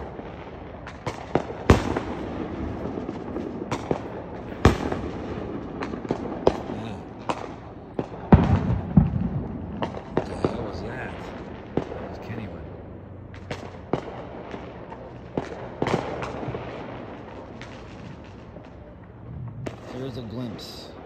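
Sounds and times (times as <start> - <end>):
firework bangs and pops: 0.0 - 12.7, 13.3 - 21.0
distant fireworks crackling: 0.0 - 21.0.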